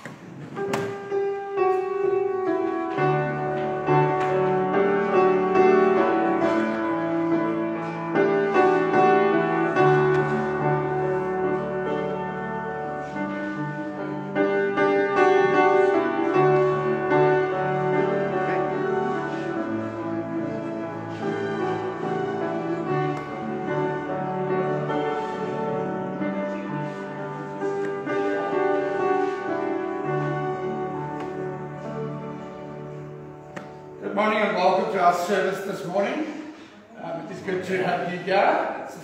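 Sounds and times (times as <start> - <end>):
slow keyboard chords: 0.0 - 34.9.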